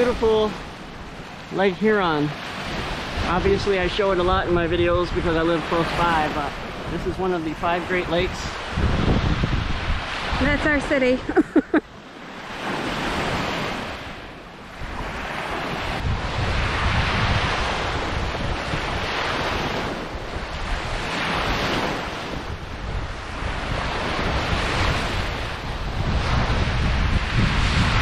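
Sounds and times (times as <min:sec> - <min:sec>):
wind buffeting microphone: 0:00.0 - 0:11.8, 0:12.4 - 0:28.0
waves washing on sandy shore: 0:00.0 - 0:28.0.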